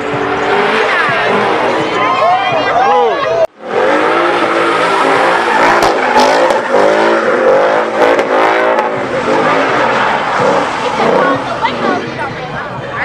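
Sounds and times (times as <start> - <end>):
car engine at high revs: 0.0 - 2.6, 3.5 - 12.2.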